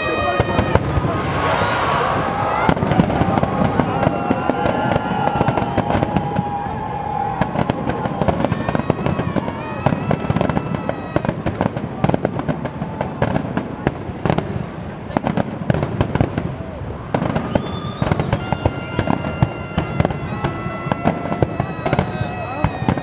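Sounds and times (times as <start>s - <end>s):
fireworks bangs and crackling: 0.0s - 23.0s
fireworks whistling: 0.0s - 23.0s.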